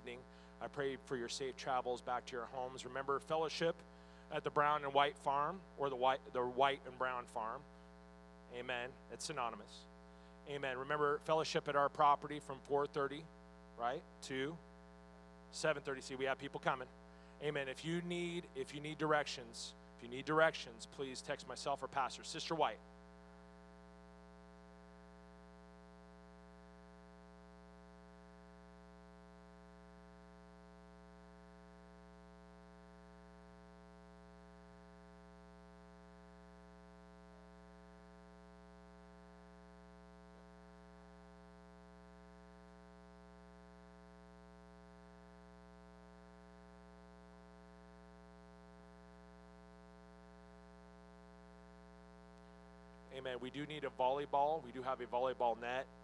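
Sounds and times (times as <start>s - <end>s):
faint electrical hum: 0.0s - 56.0s.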